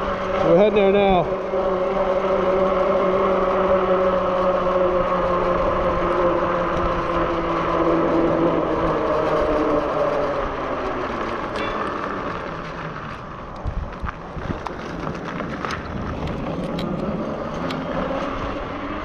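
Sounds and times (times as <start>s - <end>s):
electric bike motor whir: 0.0s - 19.0s.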